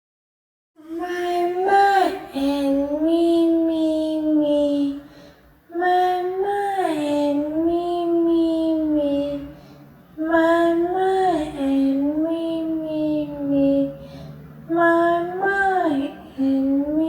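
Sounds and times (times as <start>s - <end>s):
high singing voice: 0.8s - 17.0s.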